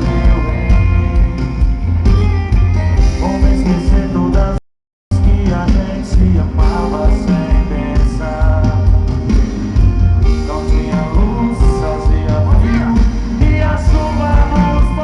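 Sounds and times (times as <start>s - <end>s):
person singing: 0.0s - 1.8s, 3.0s - 9.3s, 10.2s - 15.0s
live band music: 0.0s - 15.0s.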